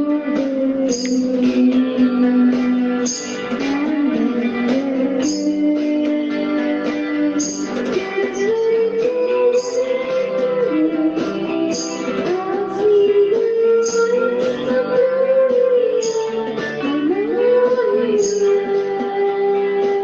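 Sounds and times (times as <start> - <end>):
guitar music: 0.0 - 20.0.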